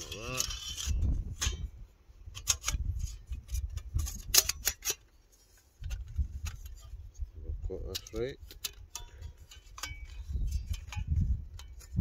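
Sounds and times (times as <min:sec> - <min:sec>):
metal plates clinking and scraping: 0:00.0 - 0:07.0, 0:07.8 - 0:12.0.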